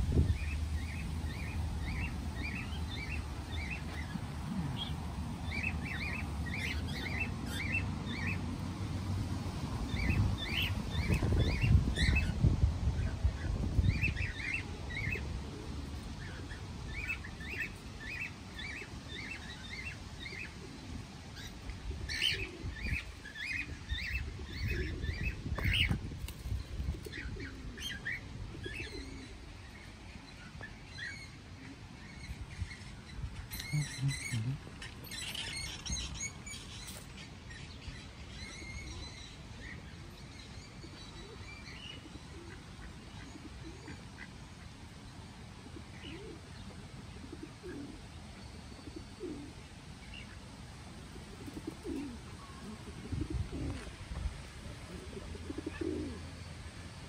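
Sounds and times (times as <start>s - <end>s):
small birds chirping: 0.1s - 8.7s, 9.9s - 57.0s.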